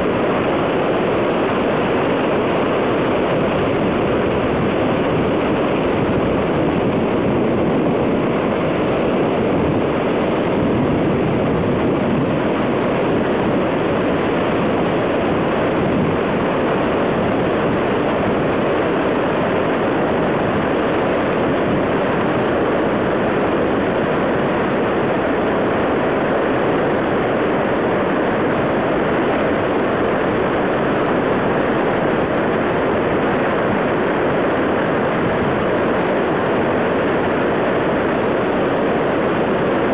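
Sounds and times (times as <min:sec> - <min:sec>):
river torrent roaring: 0:00.0 - 0:39.9.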